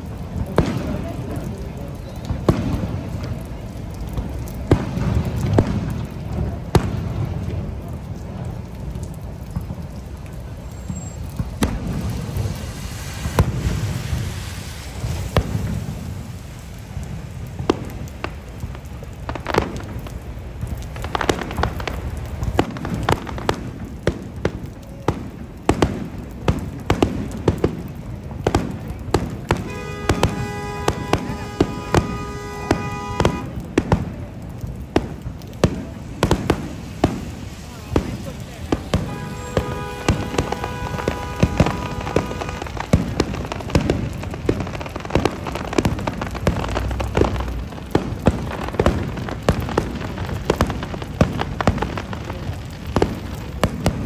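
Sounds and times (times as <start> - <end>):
fireworks bangs and pops: 0.0 - 54.0.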